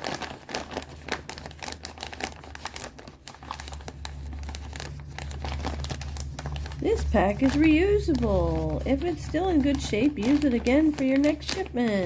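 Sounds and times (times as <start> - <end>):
plastic pack crinkling: 0.0 - 12.0.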